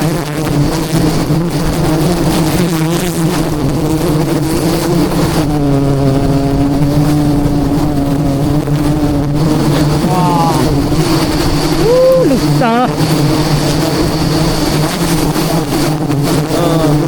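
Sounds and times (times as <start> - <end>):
bee swarm buzzing: 0.0 - 17.0
close high bee buzz: 0.0 - 17.0.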